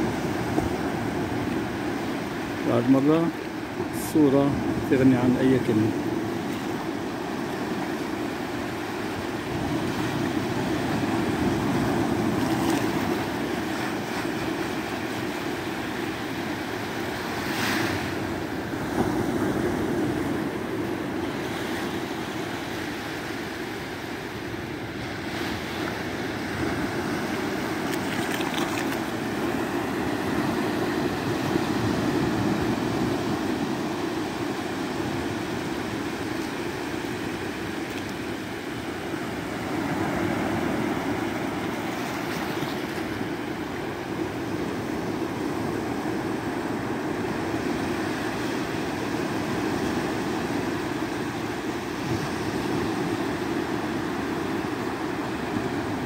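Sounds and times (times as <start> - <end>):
waves washing over sand: 0.0 - 56.0.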